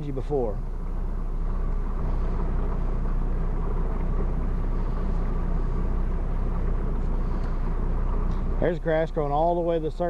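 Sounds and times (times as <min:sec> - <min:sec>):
outboard engine humming: 0:00.0 - 0:10.0.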